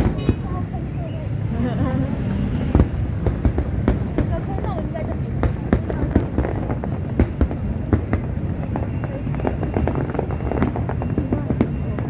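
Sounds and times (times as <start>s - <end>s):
fireworks bangs and crackles: 0.0s - 12.0s
low rumble of shell bursts: 0.0s - 12.0s.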